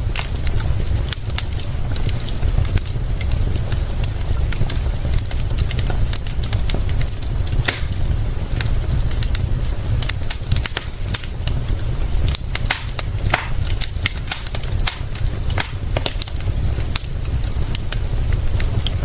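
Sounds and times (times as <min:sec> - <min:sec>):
rain hissing: 0:00.0 - 0:19.0
wood fire crackling and popping: 0:00.0 - 0:19.0.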